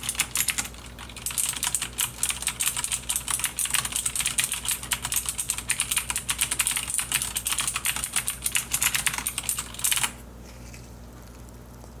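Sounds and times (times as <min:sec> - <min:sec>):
fast mechanical keyboard typing: 0:00.0 - 0:10.2.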